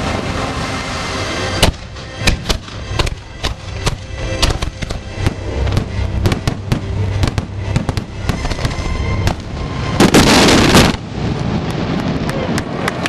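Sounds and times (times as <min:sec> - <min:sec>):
fireworks exploding: 0:01.5 - 0:13.0.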